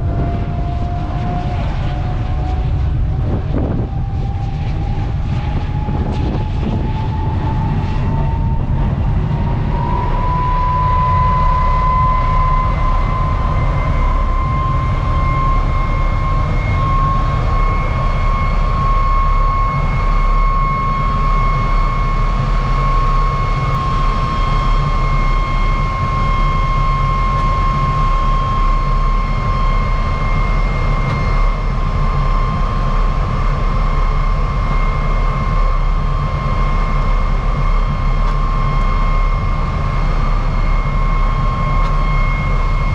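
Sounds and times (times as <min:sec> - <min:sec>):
deep engine rumble: 0:00.0 - 0:42.9
jet engine high whine: 0:00.0 - 0:42.9.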